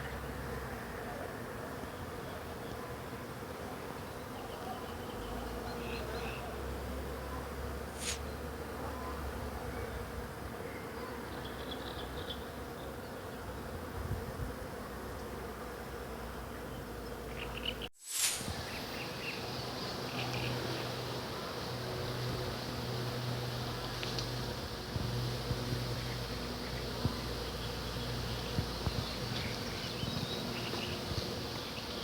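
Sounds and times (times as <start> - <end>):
bees humming: 0.0 - 32.0.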